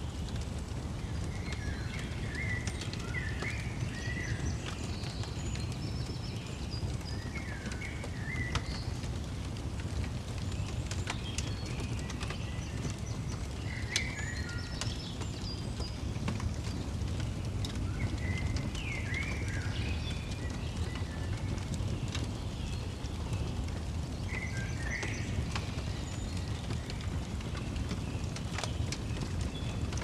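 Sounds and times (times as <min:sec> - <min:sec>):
fire crackling: 0:00.0 - 0:30.0
small birds chirping: 0:00.0 - 0:30.0.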